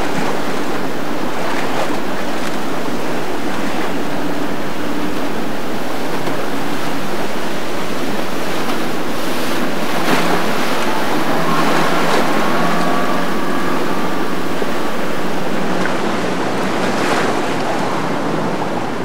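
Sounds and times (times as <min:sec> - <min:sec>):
outboard motor hum: 0:00.0 - 0:19.0
water rushing and splashing: 0:00.0 - 0:19.0.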